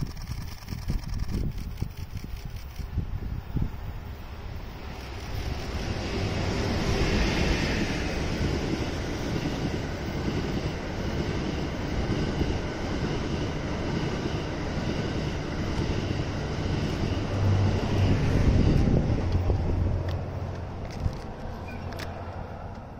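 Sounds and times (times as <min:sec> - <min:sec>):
train cars rumbling on rails: 0:00.0 - 0:22.9.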